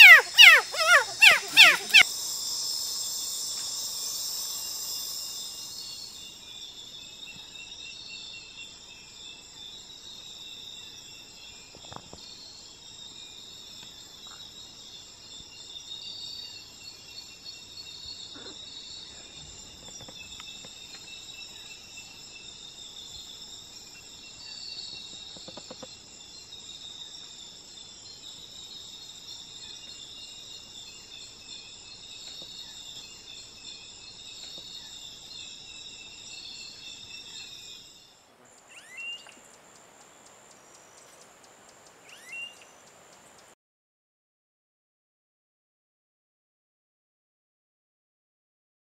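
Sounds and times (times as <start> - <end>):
insect chorus trilling: 0.0 - 43.6.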